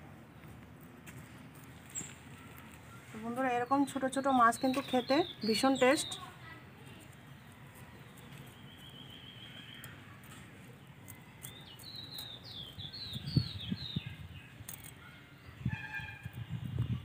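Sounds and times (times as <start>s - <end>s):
bird chirping: 1.9s - 17.0s.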